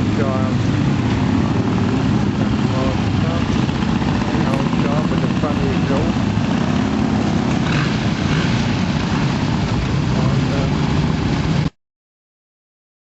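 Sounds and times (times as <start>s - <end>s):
motorcycle engines throbbing: 0.0s - 11.7s.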